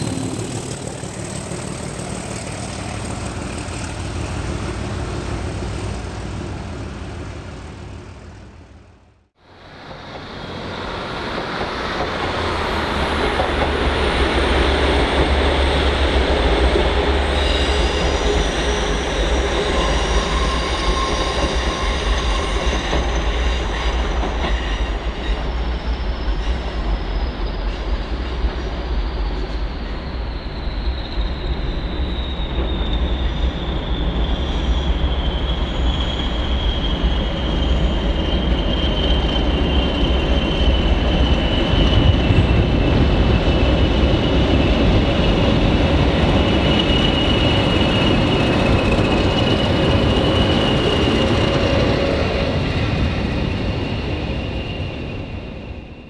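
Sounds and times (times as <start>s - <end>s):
diesel locomotive engines: 0.0s - 56.0s
rail and wheel noise: 0.0s - 56.0s.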